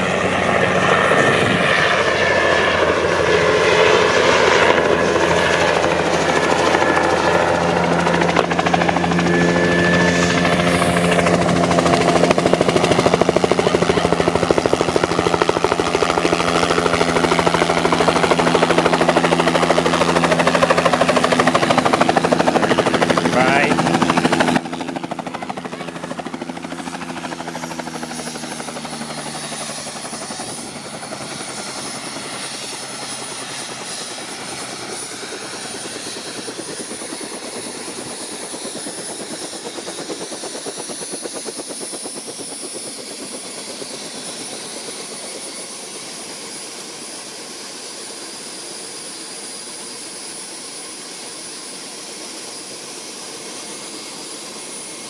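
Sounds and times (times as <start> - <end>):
helicopter rotor chop: 0.0 - 55.0
high turbine whine: 0.0 - 55.0.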